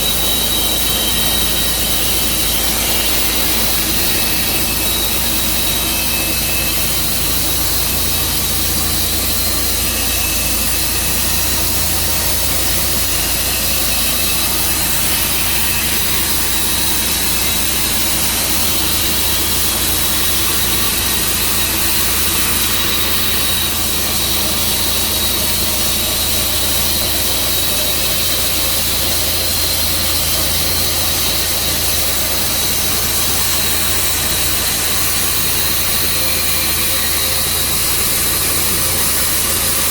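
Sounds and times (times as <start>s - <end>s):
sawmill engine whining: 0.0s - 39.9s.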